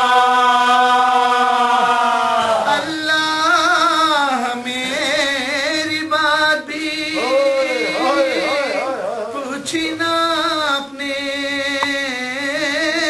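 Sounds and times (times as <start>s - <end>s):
man chanting unaccompanied: 0.0s - 13.0s.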